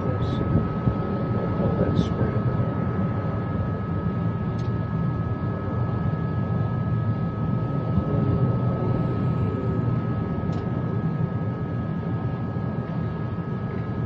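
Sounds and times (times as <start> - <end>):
low machine drone: 0.0 - 14.0.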